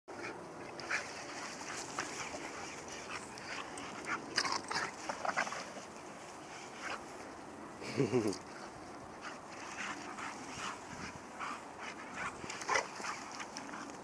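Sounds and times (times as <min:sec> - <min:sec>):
dogs play-fighting on grass: 0:00.1 - 0:14.0.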